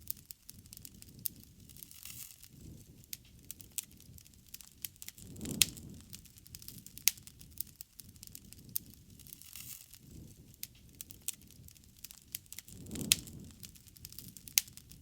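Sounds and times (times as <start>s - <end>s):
bonfire snaps and pops: 0.0s - 15.0s
low rumble of flames: 0.0s - 15.0s.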